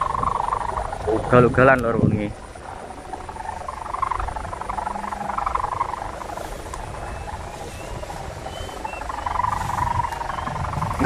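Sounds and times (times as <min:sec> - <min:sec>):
kite hummer droning: 0:00.0 - 0:11.0
wind rumbling on microphone: 0:00.0 - 0:11.0.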